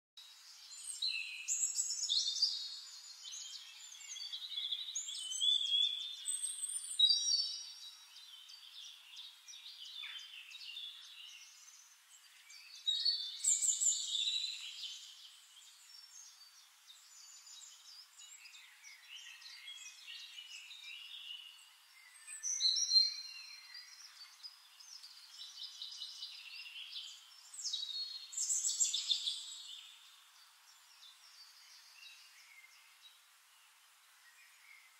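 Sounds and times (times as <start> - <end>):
songbirds chirping and warbling: 0.2 - 34.9.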